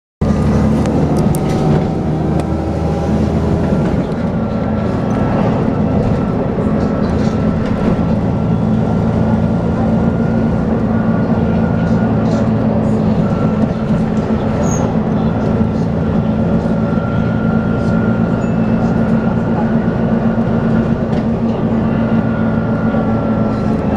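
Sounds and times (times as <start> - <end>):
bus engine drone: 0.2 - 23.9.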